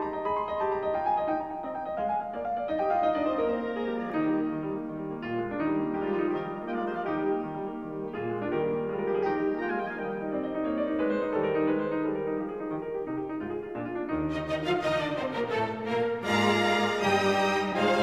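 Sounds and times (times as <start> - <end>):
classical piano music: 0.0 - 18.0.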